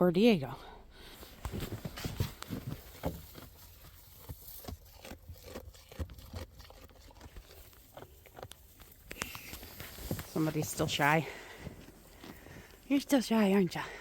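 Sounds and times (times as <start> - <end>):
horses chewing grain: 1.0 - 14.0.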